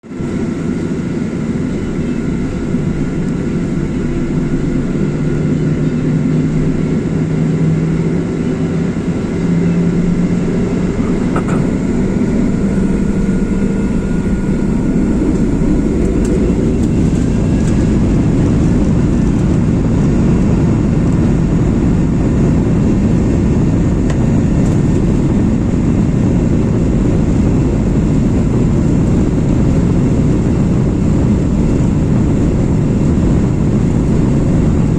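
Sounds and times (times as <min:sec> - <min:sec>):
jet engines spooling up: 0:00.2 - 0:34.9.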